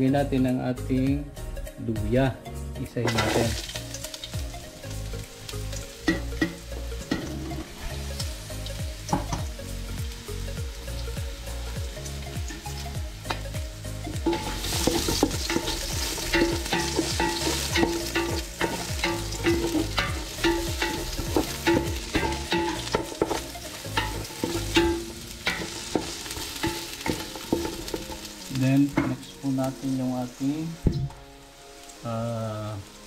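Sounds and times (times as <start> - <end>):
ginger sizzling in oil: 2.9 - 33.0.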